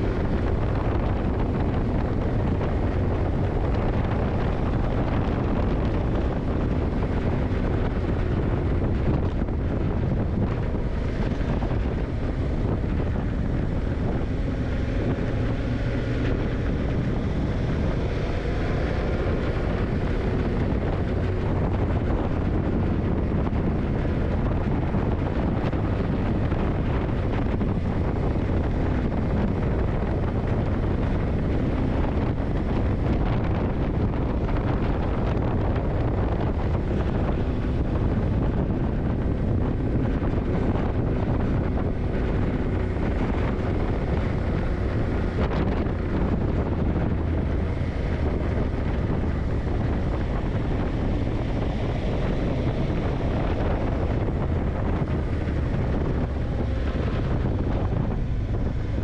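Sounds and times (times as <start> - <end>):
motorcycle engine running: 0.0 - 59.0
wind buffeting on microphone: 0.0 - 59.0.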